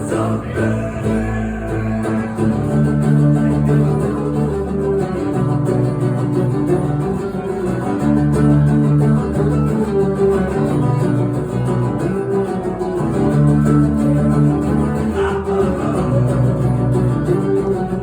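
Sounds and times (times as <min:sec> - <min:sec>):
guitar chords ringing: 0:00.0 - 0:18.0
sustained low notes: 0:00.0 - 0:18.0.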